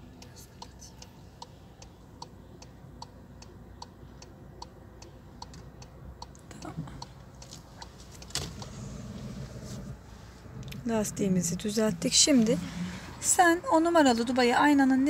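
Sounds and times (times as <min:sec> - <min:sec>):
turn signal ticking: 0:00.0 - 0:12.6
low hum inside car: 0:00.0 - 0:15.0.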